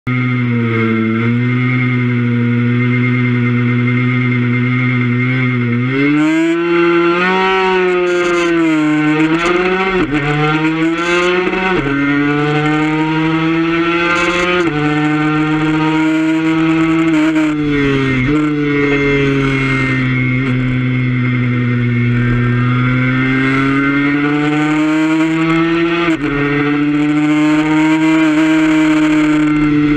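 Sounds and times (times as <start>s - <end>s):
two-stroke motorcycle engine revving: 0.1s - 29.9s.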